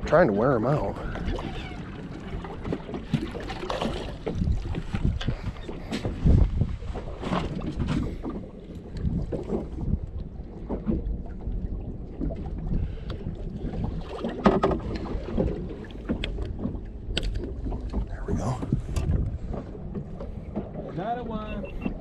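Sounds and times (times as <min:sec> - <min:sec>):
water lapping against boat hull: 0:00.0 - 0:22.0
wind buffeting microphone: 0:00.0 - 0:22.0
clicks and knocks handling fish: 0:02.4 - 0:11.5, 0:12.2 - 0:21.0.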